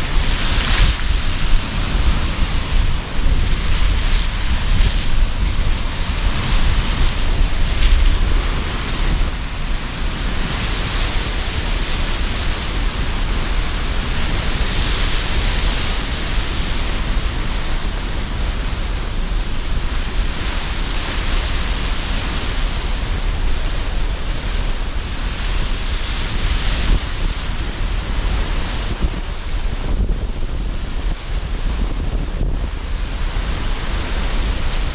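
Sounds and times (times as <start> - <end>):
waves breaking: 0.0 - 34.9
wind rumble: 0.0 - 34.9.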